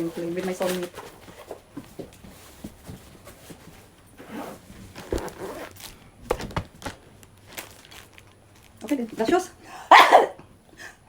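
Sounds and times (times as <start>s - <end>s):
packaging and clothing rustling: 0.0s - 9.2s.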